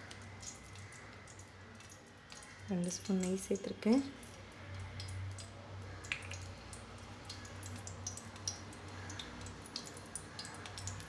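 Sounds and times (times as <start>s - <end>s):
ghee ticking and crackling in pan: 0.0s - 11.0s.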